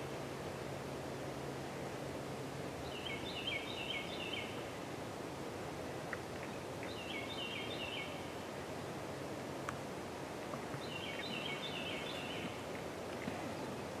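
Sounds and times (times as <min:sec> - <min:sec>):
woods background noise: 0:00.0 - 0:14.0.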